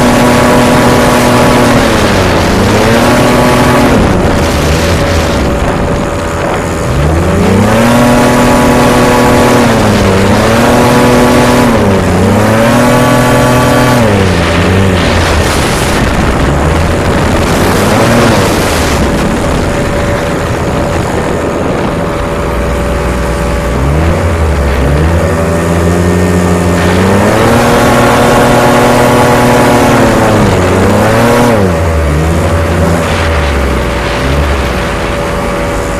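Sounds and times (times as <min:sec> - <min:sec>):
hovercraft engine and fan revving: 0:00.0 - 0:35.9.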